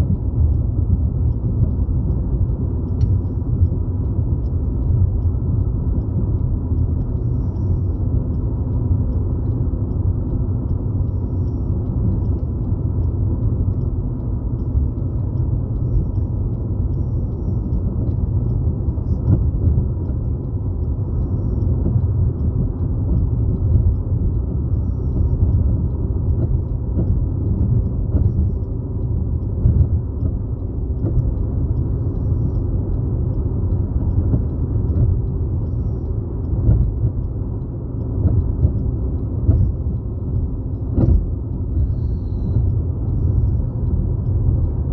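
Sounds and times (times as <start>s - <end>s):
road and engine rumble in car: 0.0s - 44.9s.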